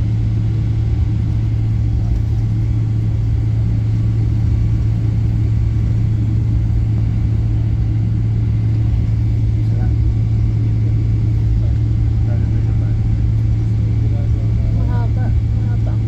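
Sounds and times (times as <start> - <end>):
even low hum: 0.0 - 16.0
jet engines and airflow rumble: 0.0 - 16.0.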